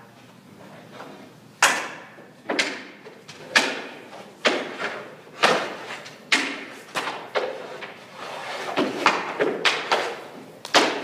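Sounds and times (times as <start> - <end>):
sharp knocks echoing in rink: 1.6 - 11.0.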